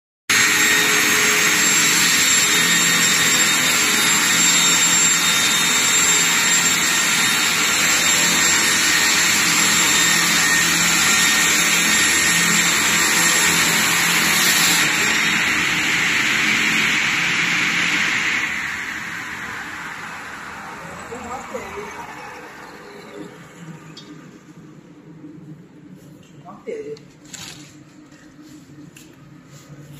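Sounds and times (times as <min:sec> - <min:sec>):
sawmill blade whining: 0:00.3 - 0:24.4.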